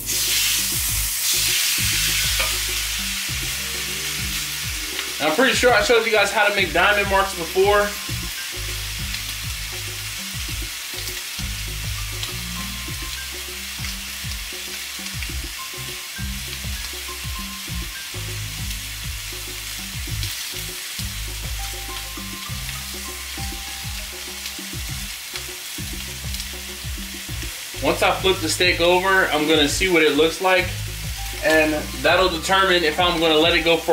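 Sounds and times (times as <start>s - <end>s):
steak sizzling in a pan: 0.0s - 33.9s.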